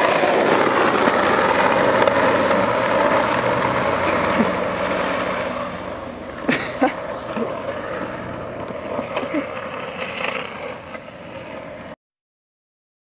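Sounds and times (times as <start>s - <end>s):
skateboard wheels rolling on pavement: 0.0s - 12.0s.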